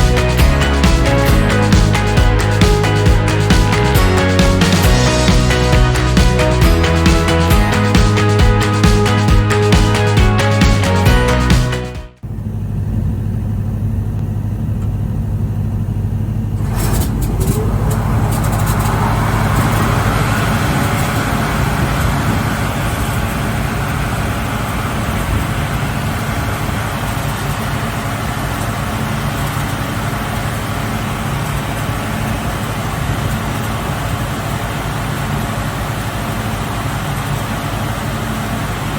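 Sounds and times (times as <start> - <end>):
low motor hum: 0.0 - 35.0.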